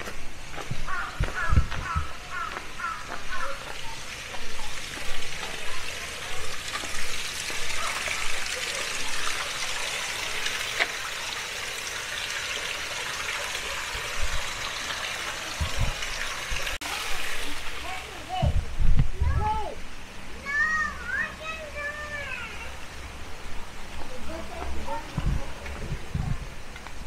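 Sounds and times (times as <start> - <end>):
water running and splashing: 0.0 - 27.0.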